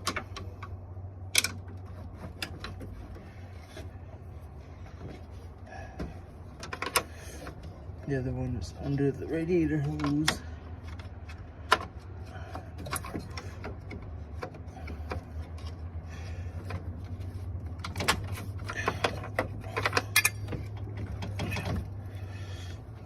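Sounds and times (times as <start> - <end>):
clicks and knocks of hand work: 0.0 - 8.0, 9.6 - 23.0
steady low hum: 0.0 - 23.0.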